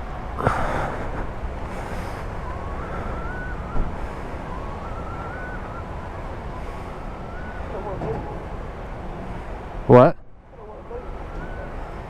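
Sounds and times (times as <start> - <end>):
wind noise: 0.0 - 9.8
faint whine: 0.0 - 12.0
motor vehicle rumble: 0.0 - 12.0.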